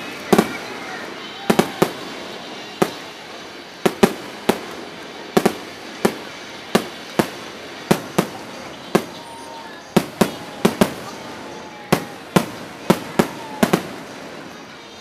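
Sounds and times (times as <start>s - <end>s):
firework shells bursting: 0.0s - 14.9s.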